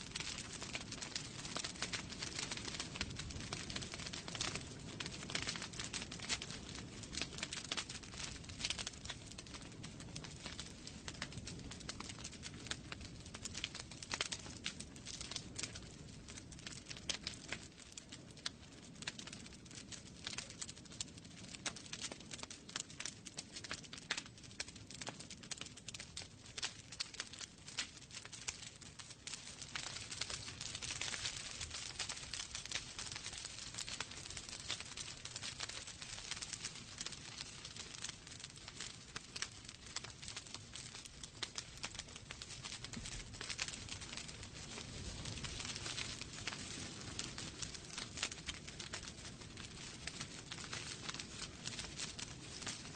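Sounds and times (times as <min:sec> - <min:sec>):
logs crackling and popping: 0:00.0 - 0:52.9
low rumble of flame: 0:00.0 - 0:52.9.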